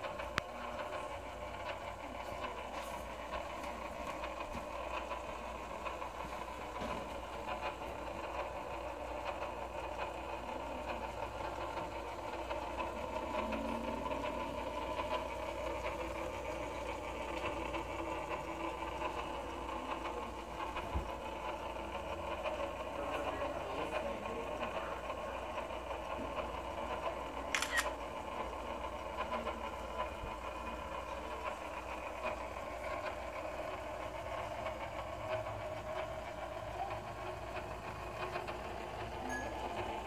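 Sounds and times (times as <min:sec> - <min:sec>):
film projector clattering: 0:00.0 - 0:40.0.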